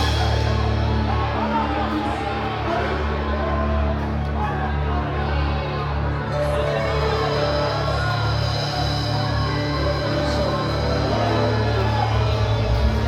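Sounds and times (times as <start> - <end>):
sustained low bass notes: 0.0 - 13.0.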